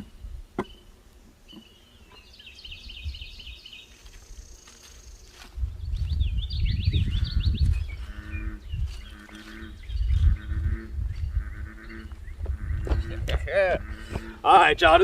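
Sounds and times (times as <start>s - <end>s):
bird chirping: 0.0s - 14.4s.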